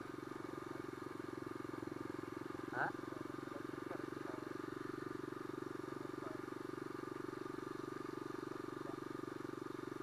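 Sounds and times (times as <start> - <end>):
motorcycle engine running steadily: 0.0 - 10.0.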